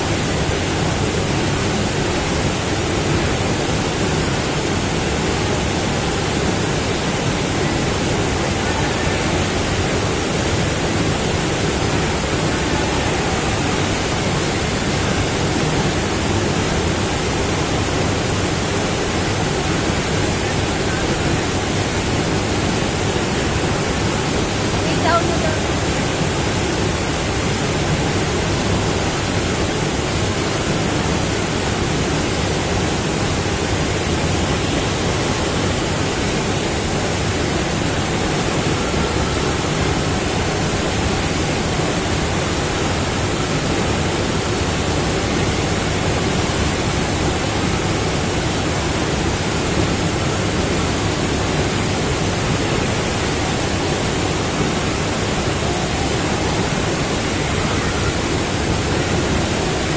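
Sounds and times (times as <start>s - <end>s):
rushing water on wave ramp: 0.0s - 59.9s.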